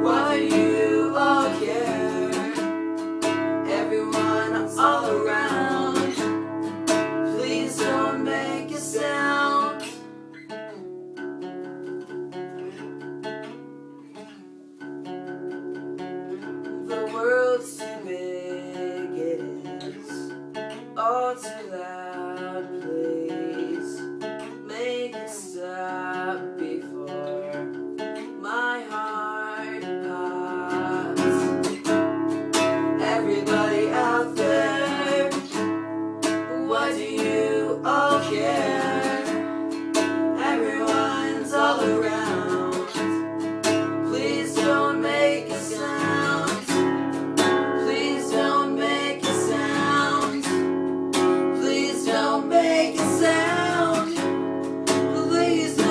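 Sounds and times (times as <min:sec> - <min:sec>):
person singing: 0:00.0 - 0:10.2, 0:16.8 - 0:20.4, 0:21.0 - 0:27.8, 0:28.4 - 0:32.0, 0:32.6 - 0:55.9
acoustic guitar strumming: 0:00.0 - 0:55.9.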